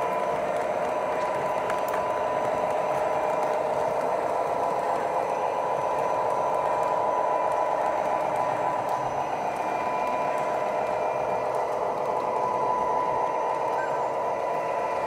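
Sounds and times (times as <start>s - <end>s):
electric motors whining: 0.0s - 15.0s
model train wheels clattering: 0.0s - 15.0s.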